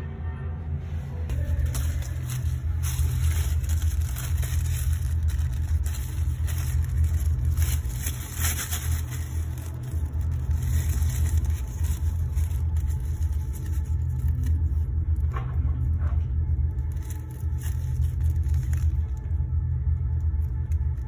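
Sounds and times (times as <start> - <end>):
steady low rumble: 0.0 - 21.0
plastic bag crinkling: 1.3 - 15.3, 16.5 - 21.0.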